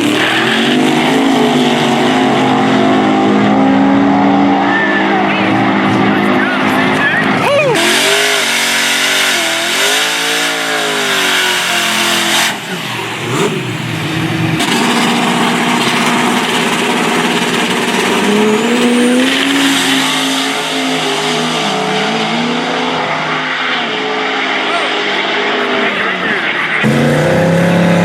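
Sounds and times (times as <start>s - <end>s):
drag racing engines at high revs: 0.0s - 28.0s.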